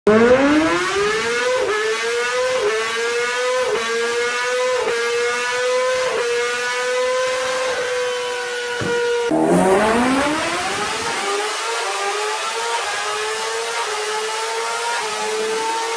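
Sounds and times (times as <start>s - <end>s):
motorbike engine revving high: 0.1s - 15.9s.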